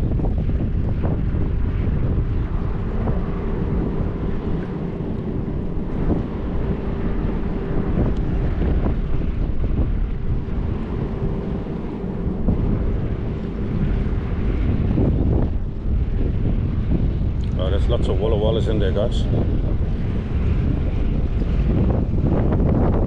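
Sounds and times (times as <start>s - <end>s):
faint steady hum: 0.0s - 23.0s
strong wind buffeting microphone: 0.0s - 23.0s.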